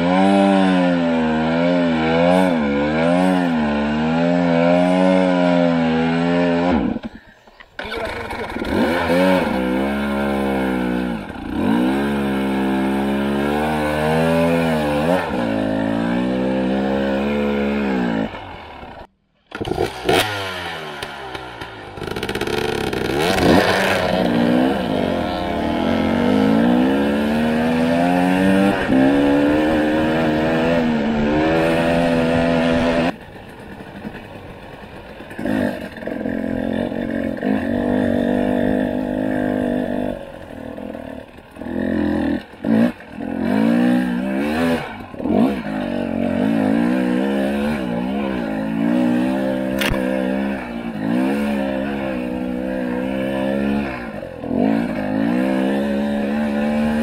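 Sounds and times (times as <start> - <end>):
motorcycle engine revving: 0.0 - 7.2, 7.8 - 57.0.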